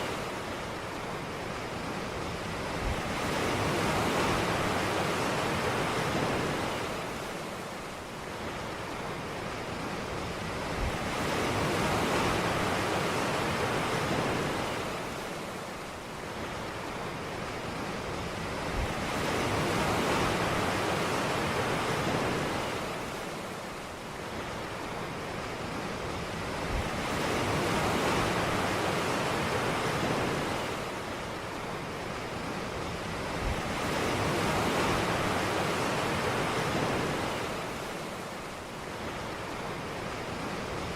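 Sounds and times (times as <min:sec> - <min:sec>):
ocean surf washing onto beach: 0:00.0 - 0:40.9.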